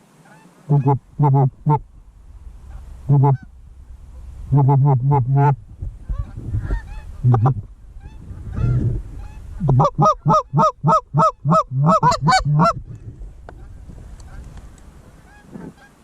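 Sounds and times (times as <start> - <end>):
goose call honks: 0.2 - 12.8, 13.6 - 16.0.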